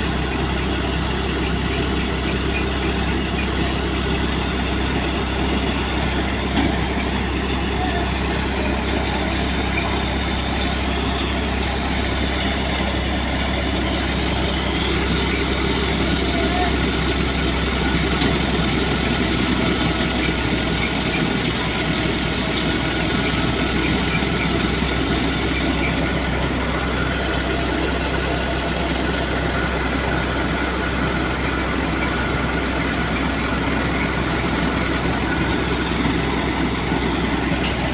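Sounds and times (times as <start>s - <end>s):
threshing machine hum and clatter: 0.0s - 37.9s.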